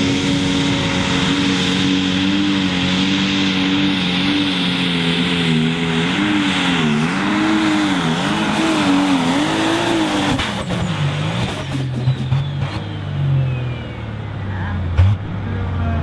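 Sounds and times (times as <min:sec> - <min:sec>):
diesel tractor engine under load: 0:00.0 - 0:16.0.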